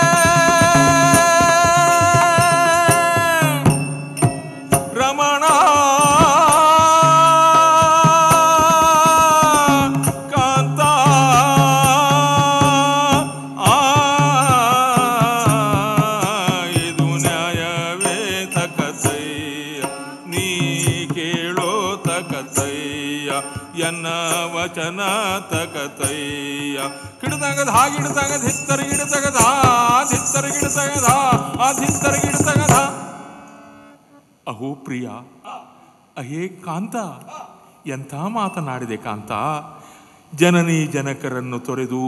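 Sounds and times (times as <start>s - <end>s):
drum strokes: 0.0s - 33.9s
jingling percussion: 0.0s - 34.0s, 38.2s - 39.6s
person singing ornamented melody: 0.0s - 34.1s.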